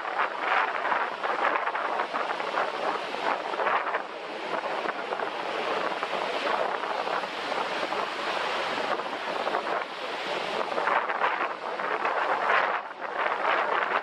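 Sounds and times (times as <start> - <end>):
surf breaking on beach: 0.0 - 14.0
wind blowing across microphone: 0.0 - 14.0.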